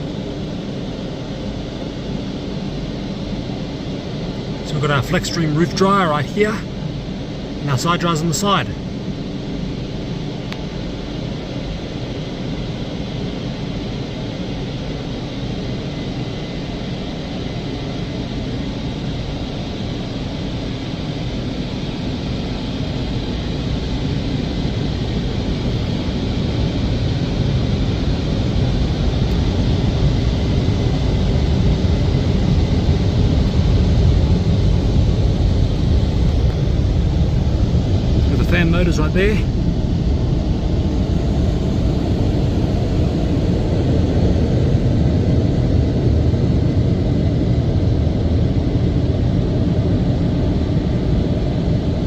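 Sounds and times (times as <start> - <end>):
fan motor noise: 0.0 - 52.0.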